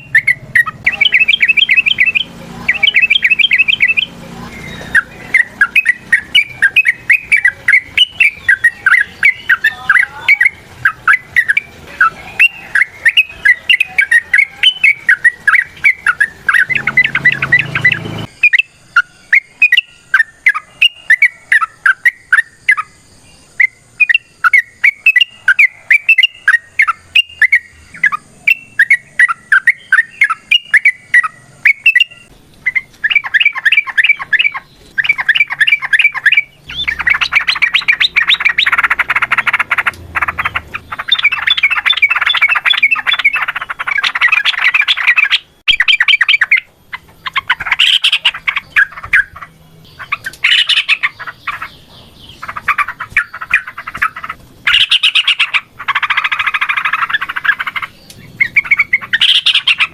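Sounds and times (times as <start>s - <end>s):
bird singing quick notes: 0.0s - 22.9s, 23.5s - 59.9s.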